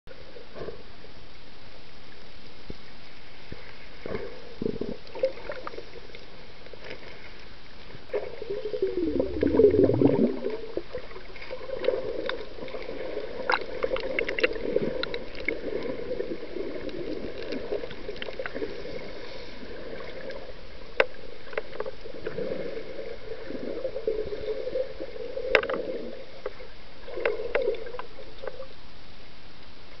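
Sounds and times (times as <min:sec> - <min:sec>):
underwater gurgling rumble: 0:00.1 - 0:30.0.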